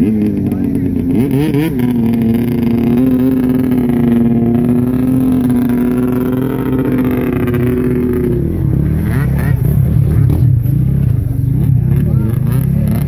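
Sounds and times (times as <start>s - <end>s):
snowmobile engine idling: 0.0s - 13.0s.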